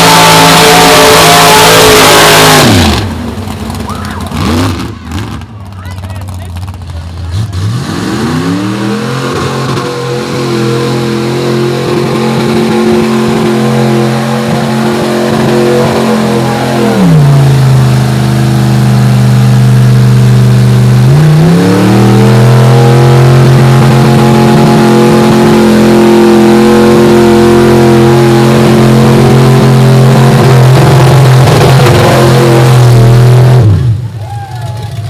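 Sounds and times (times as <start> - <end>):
tires churning through mud: 0.0 - 35.0
truck engine revving: 0.0 - 35.0.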